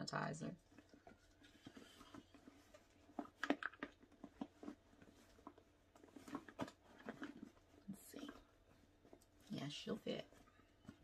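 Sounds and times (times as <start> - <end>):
handbag rustling and knocking: 0.6 - 11.0.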